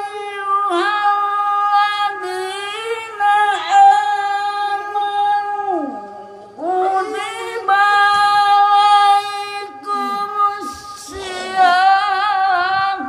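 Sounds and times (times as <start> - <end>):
man reciting through a microphone: 0.0 - 13.0.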